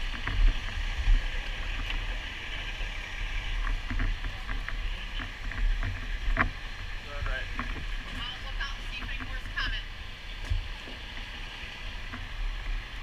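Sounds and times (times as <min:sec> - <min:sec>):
low rumble of wind and movement: 0:00.0 - 0:13.0.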